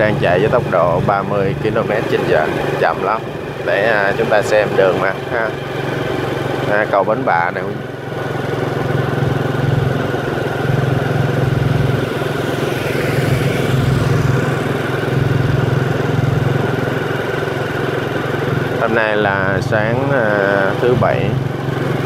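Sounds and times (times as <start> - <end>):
small motorbike engine running: 0.0 - 22.0
wind and road noise: 0.0 - 22.0.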